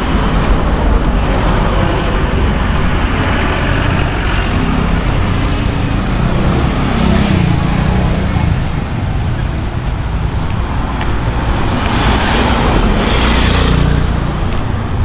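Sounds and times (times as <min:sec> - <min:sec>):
vehicles passing on road: 0:00.0 - 0:15.0.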